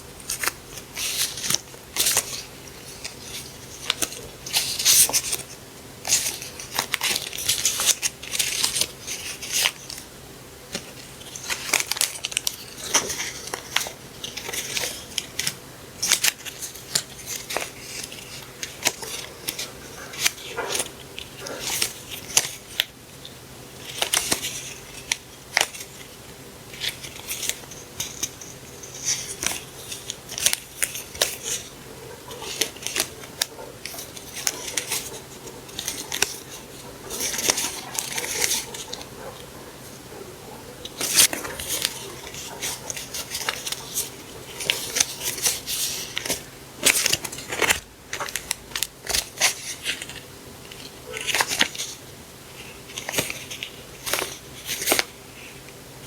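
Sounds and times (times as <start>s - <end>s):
paper and packaging rustling: 0.2s - 55.8s.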